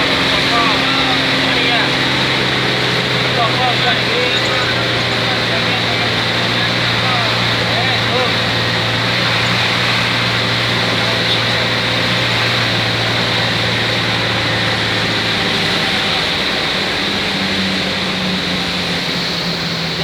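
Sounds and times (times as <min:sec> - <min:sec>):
bus engine drone: 0:00.0 - 0:20.0
tyres and rain hissing: 0:00.0 - 0:20.0.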